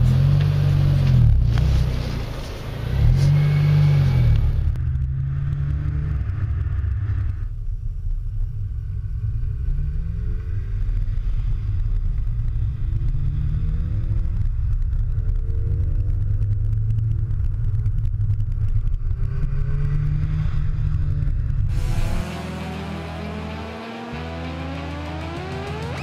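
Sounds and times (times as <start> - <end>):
car engine and exhaust rumbling: 0.0 - 26.0.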